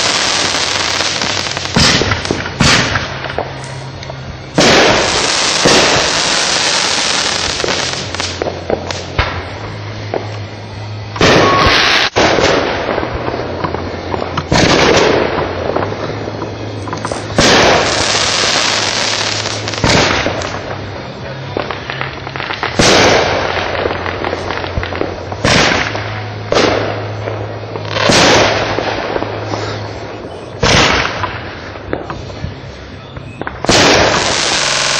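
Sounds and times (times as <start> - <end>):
firework bursts with crackle: 0.0 - 34.9.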